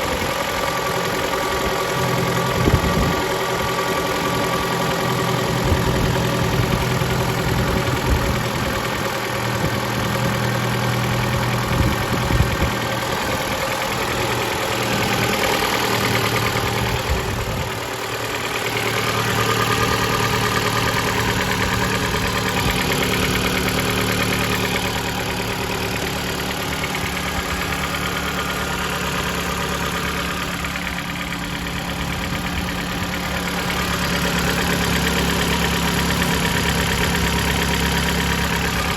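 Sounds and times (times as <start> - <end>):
car engine idling: 0.0 - 38.9
dull engine knock: 0.1 - 38.9.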